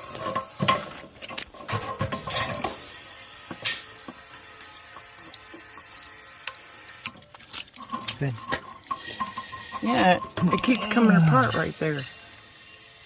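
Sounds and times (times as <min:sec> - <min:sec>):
steady running water: 0:00.0 - 0:13.0.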